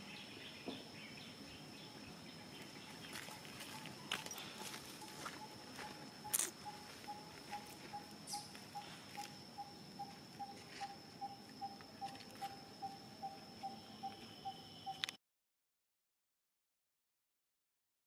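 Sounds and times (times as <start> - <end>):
high insect whine: 0.0 - 15.2.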